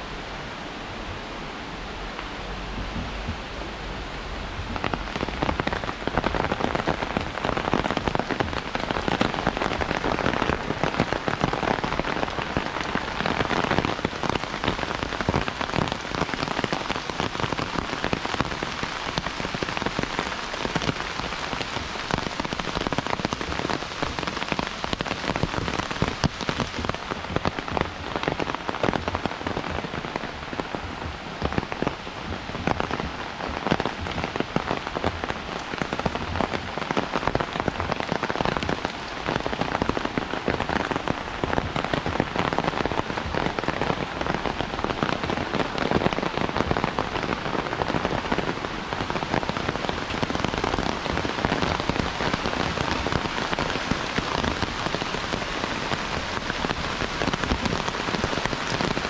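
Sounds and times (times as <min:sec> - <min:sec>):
heavy rain falling: 0:00.0 - 0:59.0
raindrops hitting close by: 0:00.0 - 0:59.0.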